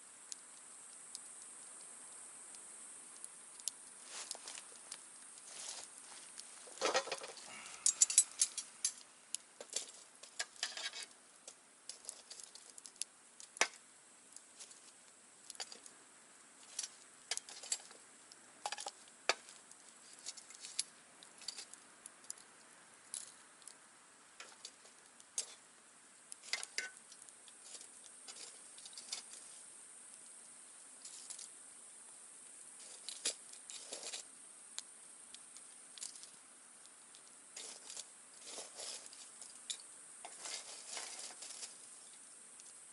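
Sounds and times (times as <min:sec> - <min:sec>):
campfire crackling: 0:00.0 - 0:42.9
faint steady hiss: 0:00.0 - 0:42.9.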